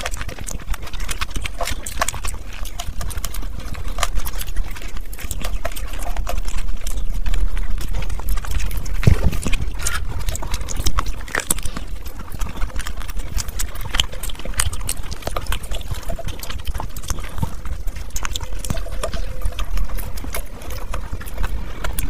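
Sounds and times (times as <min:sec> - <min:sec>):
chewing and lip-smacking: 0:00.0 - 0:22.0.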